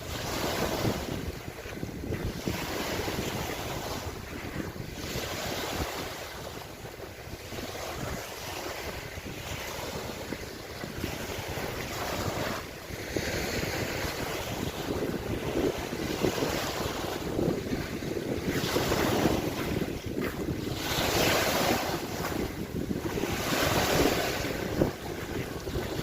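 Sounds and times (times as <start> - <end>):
lake water lapping in waves: 0.0 - 26.0
wind buffeting microphone: 0.0 - 26.0.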